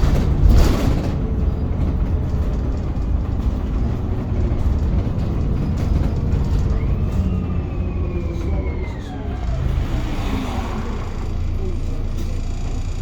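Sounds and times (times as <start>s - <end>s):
bus running rumble: 0.0s - 13.0s.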